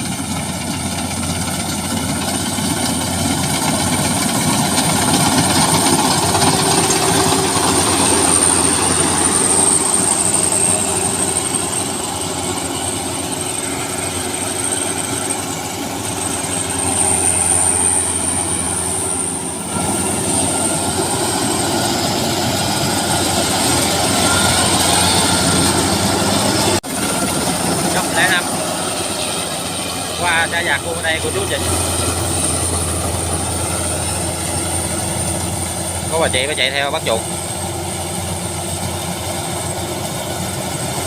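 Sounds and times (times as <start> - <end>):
high steady whine: 0.0 - 39.8
combine harvester engine drone: 0.0 - 41.0.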